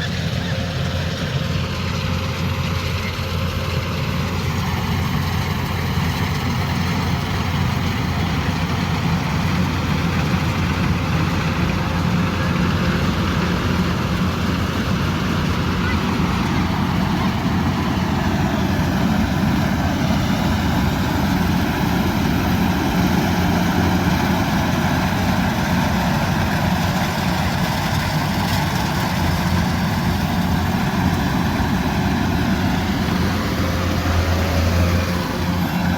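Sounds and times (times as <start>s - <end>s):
diesel engine droning: 0.0s - 35.9s.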